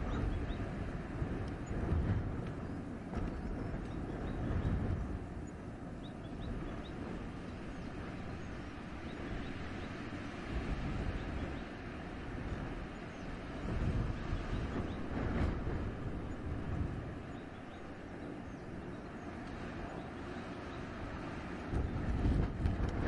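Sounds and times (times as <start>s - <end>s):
wind gusting through forest: 0.0s - 23.0s.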